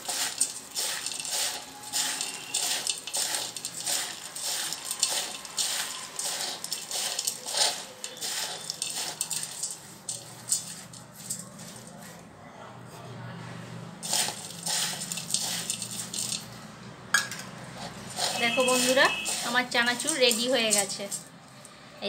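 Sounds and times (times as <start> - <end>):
snack mix rattling in steel bowl: 0.0 - 12.0, 14.0 - 16.6, 17.2 - 21.6.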